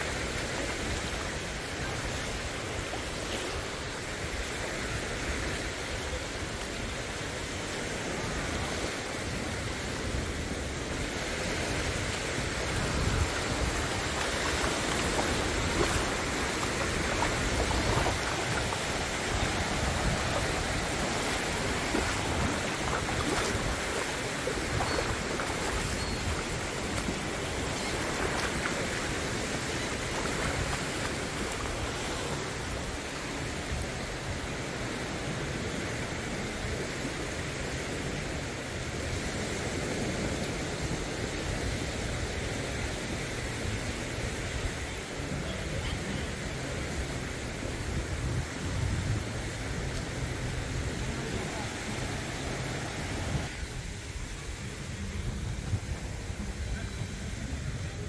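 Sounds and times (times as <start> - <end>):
gentle waves washing on sand: 0.0 - 58.0.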